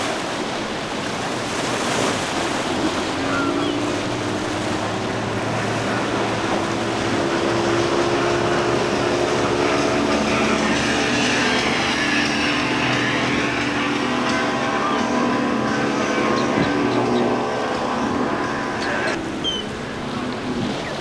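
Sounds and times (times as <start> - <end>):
outboard motor droning: 0.0 - 21.0
rush of spray and wake: 0.0 - 21.0.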